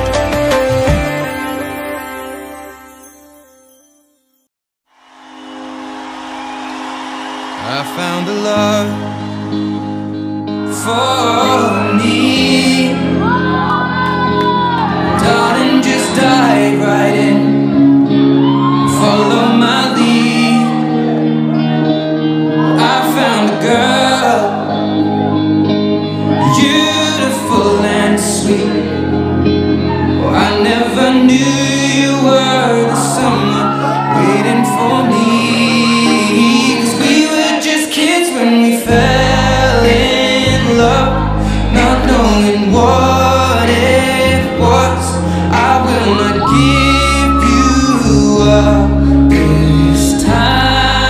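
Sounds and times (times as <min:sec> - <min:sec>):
instrumental backing music: 0:00.0 - 0:04.4, 0:07.5 - 0:51.0
long held bass notes: 0:05.2 - 0:37.2, 0:38.8 - 0:51.0
person singing: 0:07.6 - 0:51.0.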